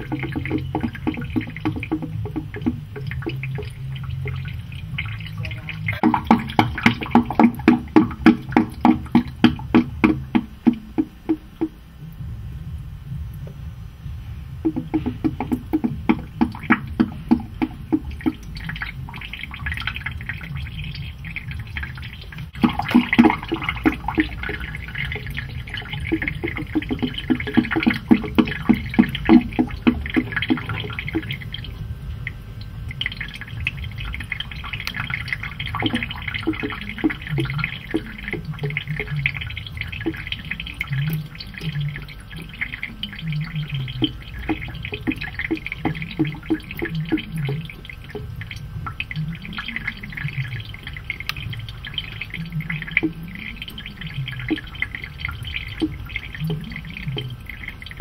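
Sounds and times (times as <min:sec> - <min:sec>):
running water: 0:00.0 - 0:58.0
water dripping into a sink: 0:00.0 - 0:58.0.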